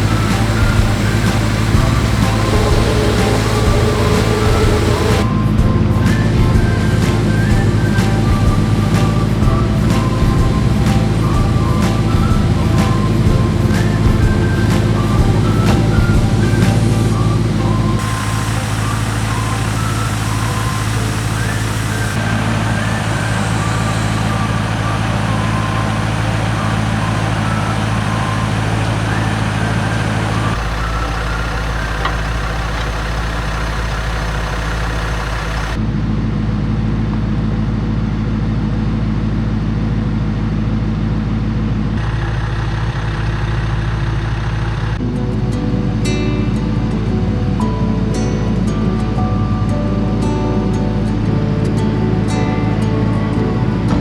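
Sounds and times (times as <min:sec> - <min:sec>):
pickup truck engine drone: 0:00.0 - 0:54.0.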